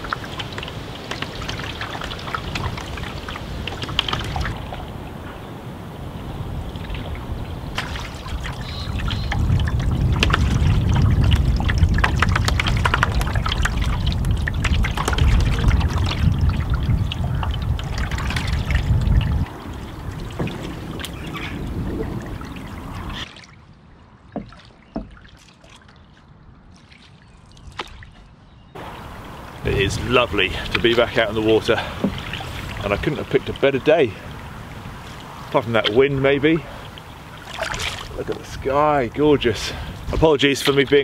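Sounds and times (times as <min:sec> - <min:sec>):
water trickling off paddle: 0:00.0 - 0:05.4, 0:06.5 - 0:41.0
wind on microphone: 0:00.0 - 0:24.0, 0:27.6 - 0:41.0
water lapping at hull: 0:00.0 - 0:41.0.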